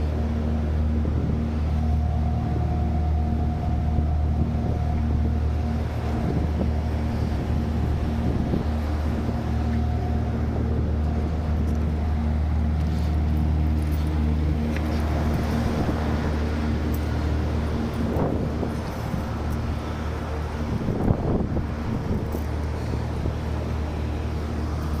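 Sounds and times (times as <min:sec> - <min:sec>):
steady tones: 0:00.0 - 0:25.0.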